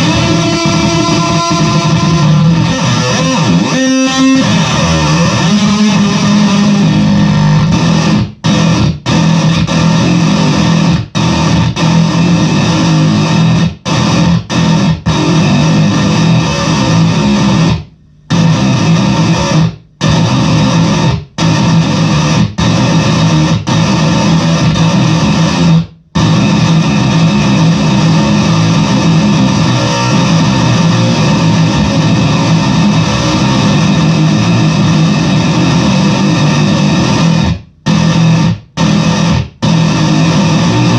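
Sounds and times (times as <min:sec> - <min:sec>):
distorted fuzz bass guitar notes: 0:00.0 - 0:40.9.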